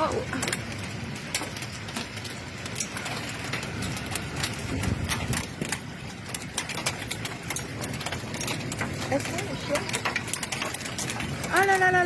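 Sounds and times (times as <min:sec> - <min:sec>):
hailstones striking hard surfaces: 0:00.0 - 0:12.0
low roar of storm: 0:00.0 - 0:12.0.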